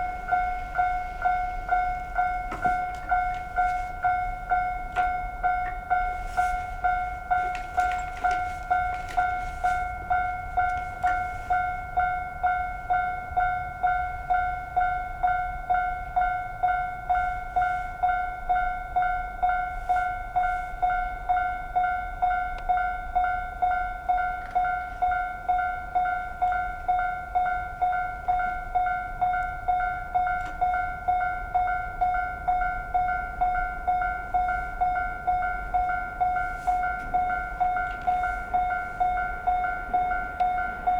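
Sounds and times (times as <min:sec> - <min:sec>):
level-crossing bell ringing: 0:00.0 - 0:40.9.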